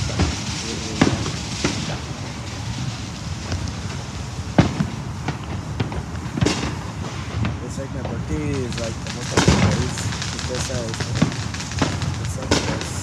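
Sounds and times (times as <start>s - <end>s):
fireworks bangs and pops: 0.0s - 13.0s
low rumble: 0.0s - 13.0s.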